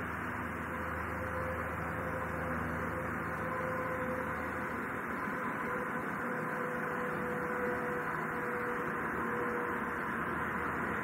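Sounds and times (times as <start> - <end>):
faint intermittent tone: 0.0 - 11.0.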